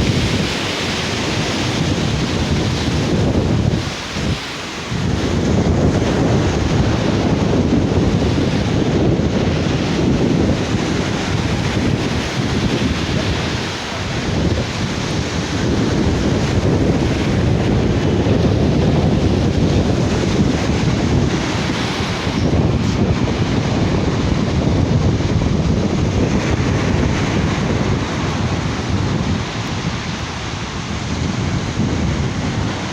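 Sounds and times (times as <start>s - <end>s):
sea waves washing on beach: 0.0s - 32.9s
wind buffeting microphone: 0.0s - 32.9s.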